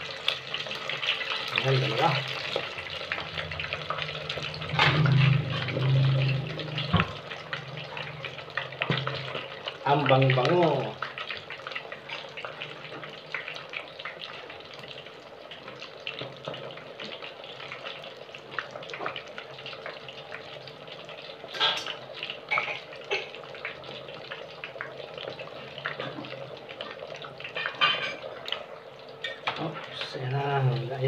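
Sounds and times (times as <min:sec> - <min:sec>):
deep-frying oil sizzling and crackling: 0:00.0 - 0:31.0.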